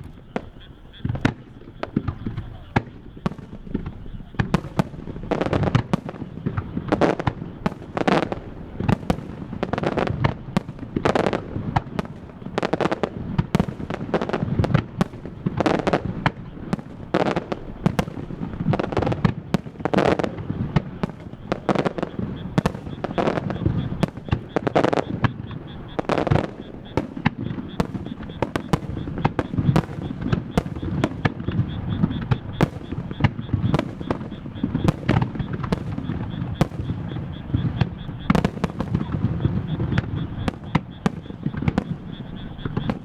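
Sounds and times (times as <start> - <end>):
fireworks booms and crackling: 0.0 - 43.0.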